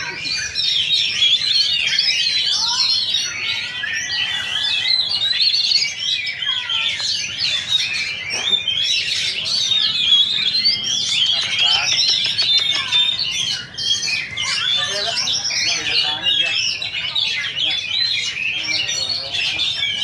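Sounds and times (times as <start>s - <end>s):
many birds singing: 0.0s - 20.0s.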